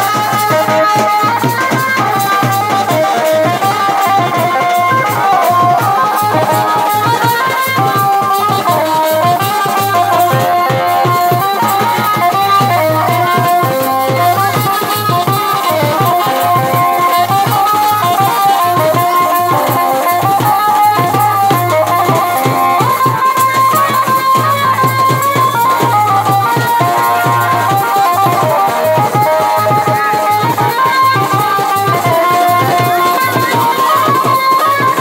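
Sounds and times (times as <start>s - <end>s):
barrel drums beating: 0.0s - 35.0s
folk melody line: 0.0s - 35.0s.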